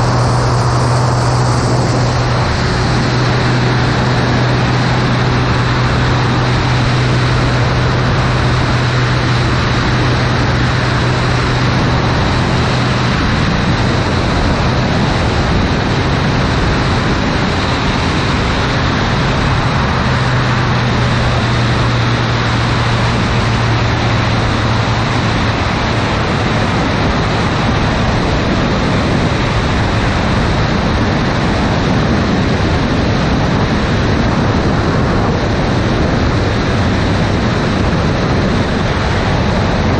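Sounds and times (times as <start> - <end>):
propeller plane engine droning: 0.0 - 39.9
wind noise on microphone: 0.0 - 39.9.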